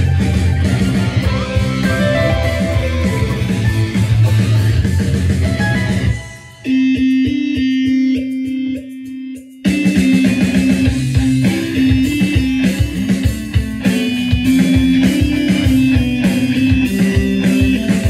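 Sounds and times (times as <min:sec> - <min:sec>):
rock band with drums: 0:00.0 - 0:18.0
electric guitar repeated note: 0:00.1 - 0:18.0.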